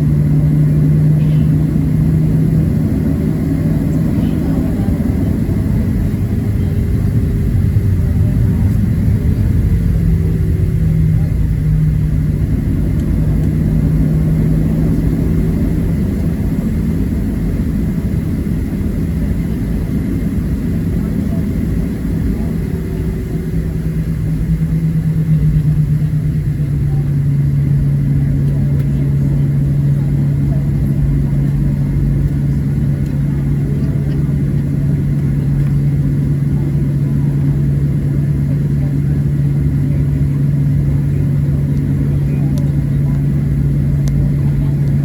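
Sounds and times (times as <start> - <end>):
jet engine cabin rumble: 0.0 - 45.0
steady hum: 0.0 - 45.0.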